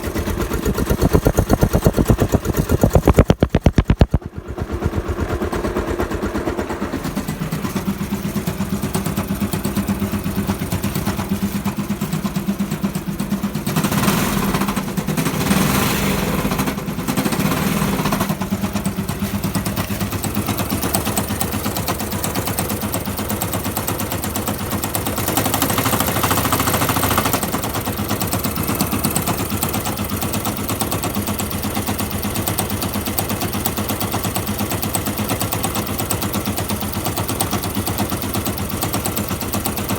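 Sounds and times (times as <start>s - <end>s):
motorcycle engine knocking: 0.0s - 15.7s, 16.4s - 39.9s.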